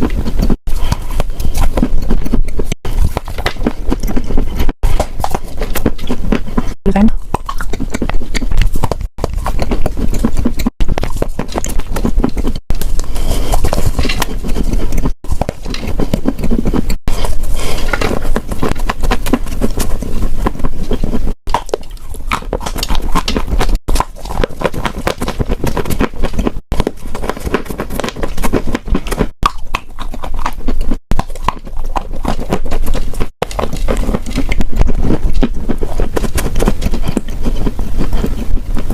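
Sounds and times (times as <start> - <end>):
crunching and chewing chalk: 0.0 - 38.9.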